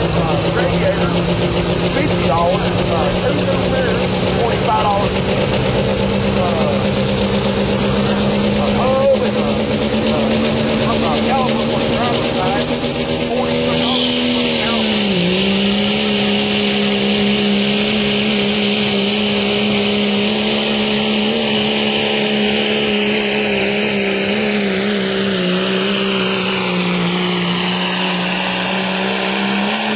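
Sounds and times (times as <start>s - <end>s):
diesel truck engine at full throttle: 0.0s - 29.9s.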